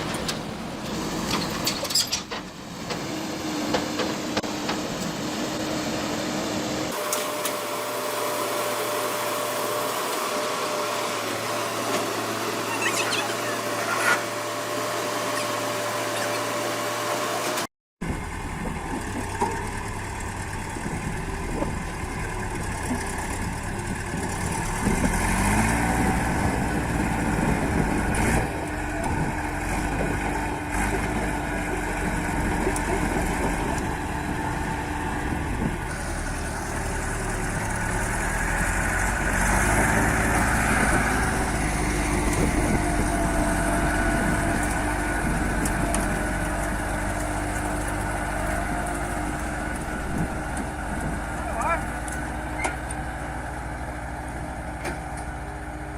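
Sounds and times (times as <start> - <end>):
heavy machinery engine revving: 6.9 - 55.9.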